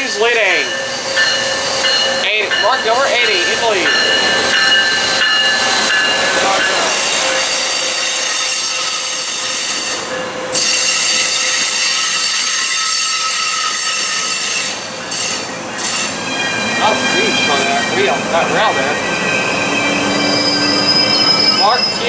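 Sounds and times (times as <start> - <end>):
train rumbling past: 0.0 - 22.0
wheels squealing on rail: 0.0 - 22.0.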